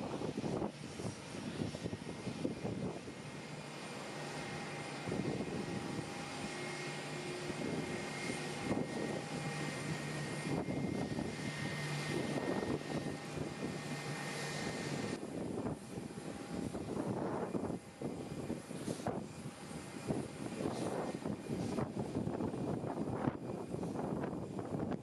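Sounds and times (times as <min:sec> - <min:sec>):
airliner engines running: 0:00.0 - 0:25.0.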